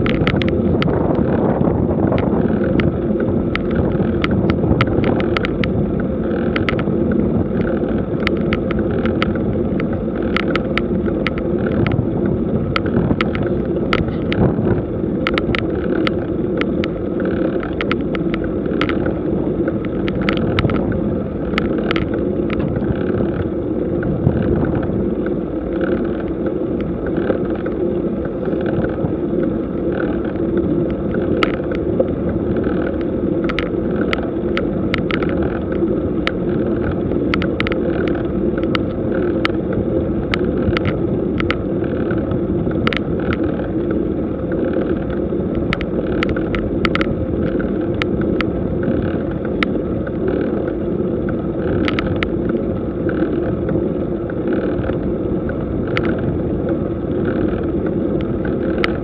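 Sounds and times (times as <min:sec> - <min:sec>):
bicycle tyres and drivetrain rumble: 0:00.0 - 0:59.0.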